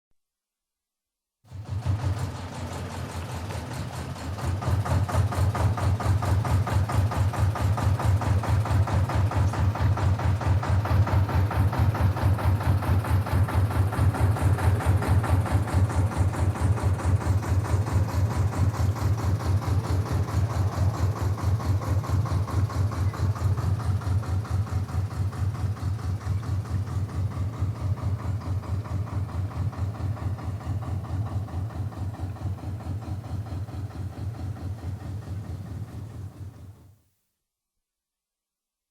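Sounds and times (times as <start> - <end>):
boat diesel engine pulsing: 1.5 - 36.8.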